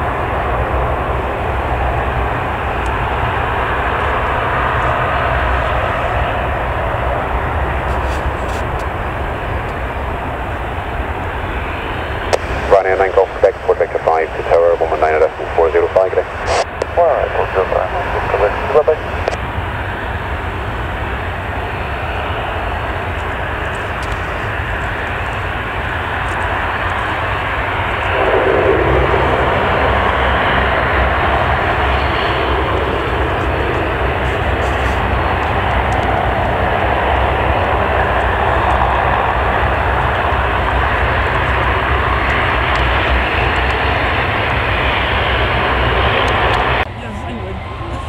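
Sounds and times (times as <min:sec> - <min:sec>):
jet engines running: 0:00.0 - 0:48.0.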